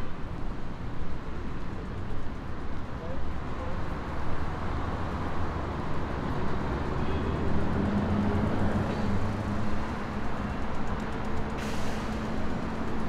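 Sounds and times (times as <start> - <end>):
vehicles passing: 0.2 - 13.0.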